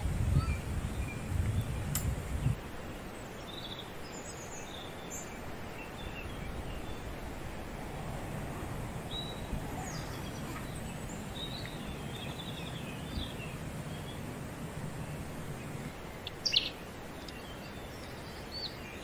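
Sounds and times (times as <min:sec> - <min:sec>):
small birds chirping: 0:00.0 - 0:07.4, 0:08.0 - 0:19.0
outdoor background noise: 0:00.0 - 0:19.0.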